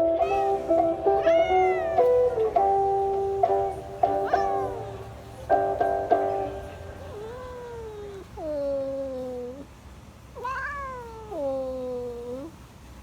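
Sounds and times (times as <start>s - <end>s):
cat meowing: 0.2s - 9.7s, 10.4s - 12.6s.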